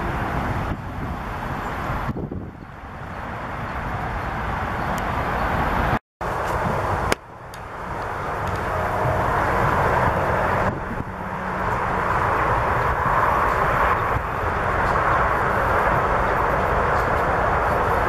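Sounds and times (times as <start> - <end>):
highway traffic noise: 0.0 - 18.0.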